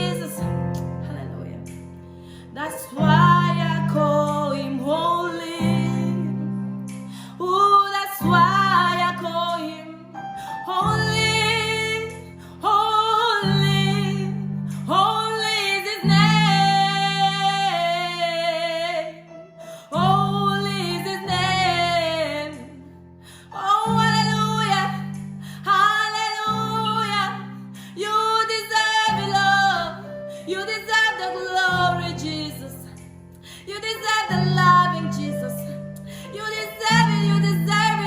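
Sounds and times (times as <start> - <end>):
woman singing worship song: 0.0 - 38.0.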